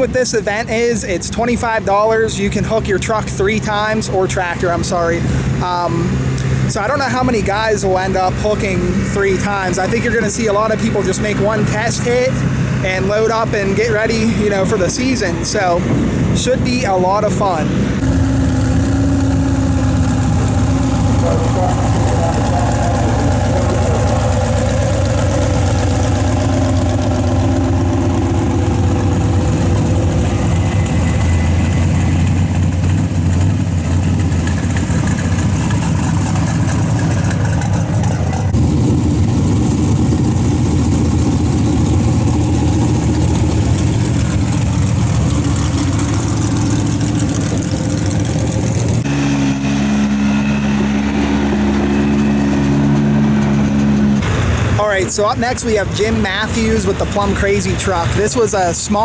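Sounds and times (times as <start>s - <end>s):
vehicle engines idling: 0.0s - 59.0s.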